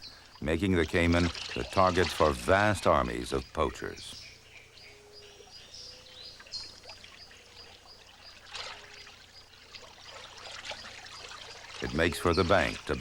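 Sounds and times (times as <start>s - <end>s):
water splashing and trickling: 0.0s - 4.0s, 6.2s - 13.0s.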